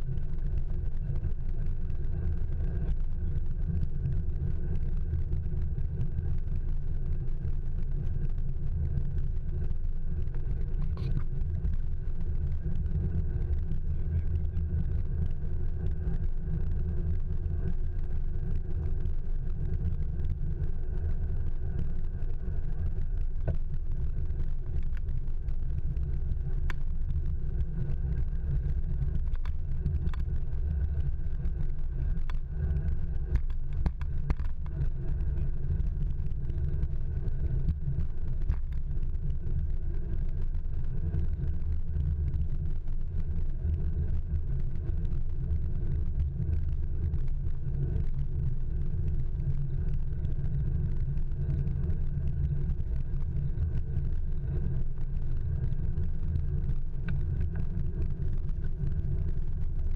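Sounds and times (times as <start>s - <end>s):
wind rumble: 0.0s - 59.9s
faint clicks: 0.2s - 59.9s.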